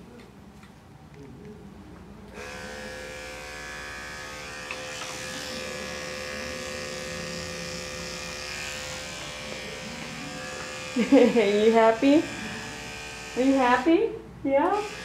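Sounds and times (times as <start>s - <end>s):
electric clippers buzzing: 2.3s - 14.0s, 14.6s - 15.0s.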